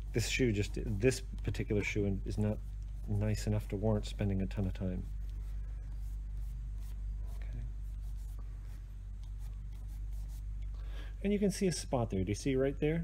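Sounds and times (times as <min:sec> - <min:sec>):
rubbing and scratching polish: 0:00.0 - 0:10.8
low hum: 0:00.0 - 0:13.0.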